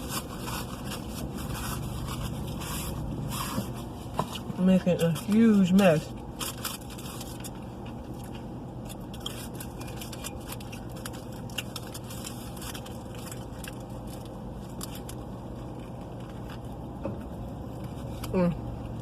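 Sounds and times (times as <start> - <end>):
wrapper crackling: 0.0 - 4.1, 5.0 - 16.7
car cabin hum: 0.0 - 19.0.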